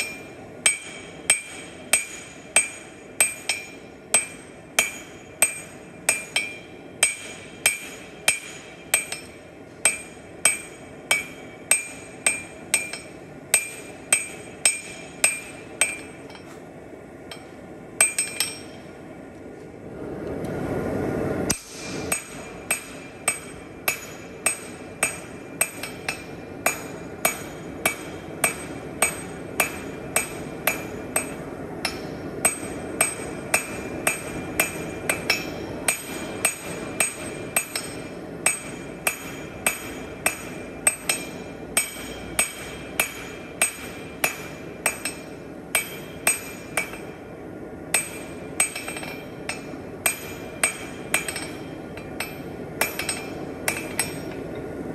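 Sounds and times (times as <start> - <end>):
hammer striking steel on anvil: 0.0 - 16.7, 17.3 - 18.9, 21.5 - 47.3, 47.9 - 54.7.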